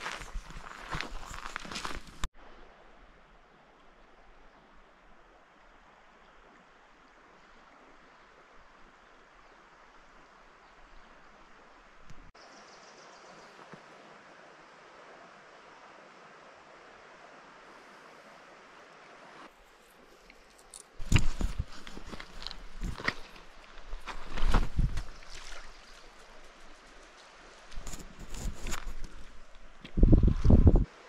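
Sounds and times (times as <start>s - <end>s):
flowing creek: 0.0s - 31.0s.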